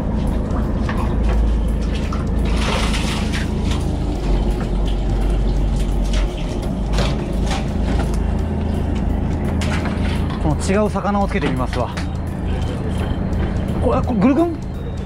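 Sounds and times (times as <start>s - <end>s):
boat engine rumbling: 0.0s - 15.0s
water splashing and sloshing: 0.0s - 15.0s.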